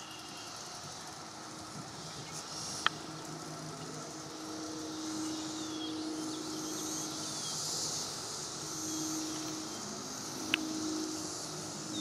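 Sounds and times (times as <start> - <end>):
cicadas buzzing: 0.0 - 12.0
faint chirps: 0.0 - 12.0
low steady hum: 0.0 - 12.0.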